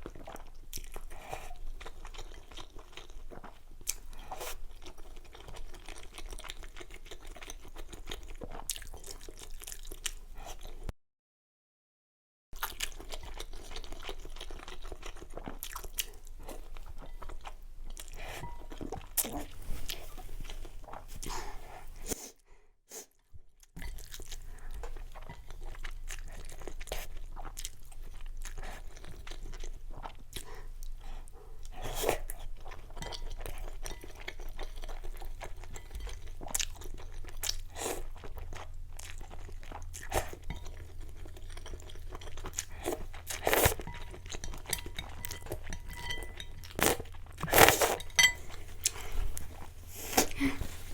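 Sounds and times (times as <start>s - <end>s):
person chewing and crunching food: 0.0s - 10.9s, 12.6s - 22.3s, 23.0s - 50.9s.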